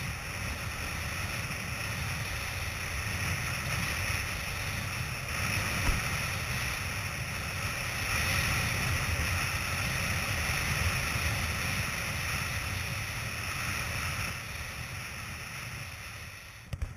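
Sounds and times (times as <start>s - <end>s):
wind buffeting microphone: 0.0s - 15.7s.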